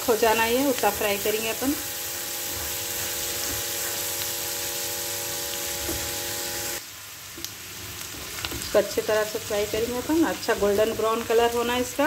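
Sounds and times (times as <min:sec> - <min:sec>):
lentils sizzling in oil: 0:00.0 - 0:12.0.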